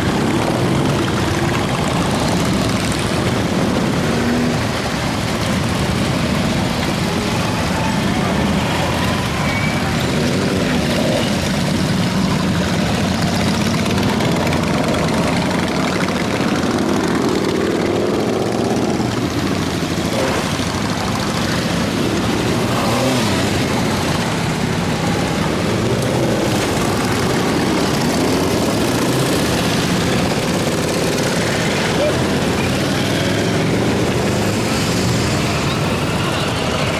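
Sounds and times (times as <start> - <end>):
motorcycle engines droning: 0.0 - 36.9
motorcycle engines revving: 0.0 - 36.9.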